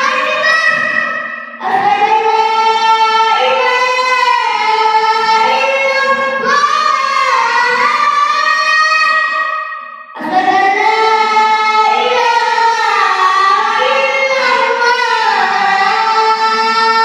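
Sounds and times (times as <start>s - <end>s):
child chanting call to prayer: 0.0s - 17.0s.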